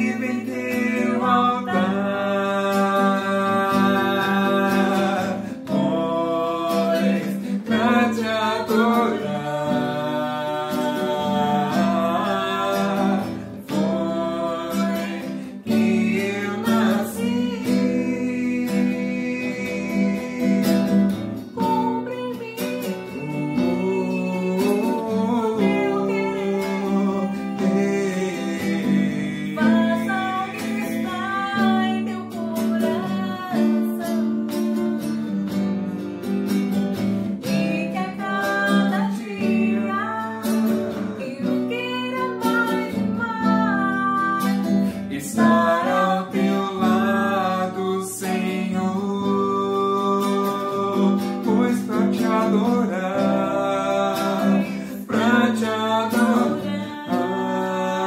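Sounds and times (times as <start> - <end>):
woman and man singing: 0.0 - 36.5, 37.3 - 58.0
classical guitar: 0.0 - 58.0.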